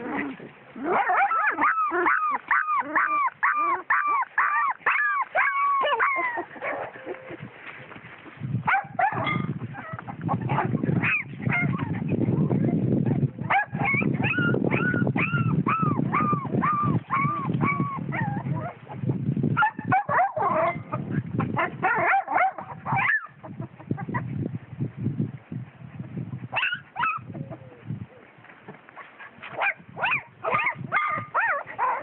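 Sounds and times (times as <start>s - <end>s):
puppies yelping and whining: 0.0s - 8.4s, 9.0s - 19.0s, 19.6s - 24.3s, 26.5s - 28.3s, 29.0s - 32.0s.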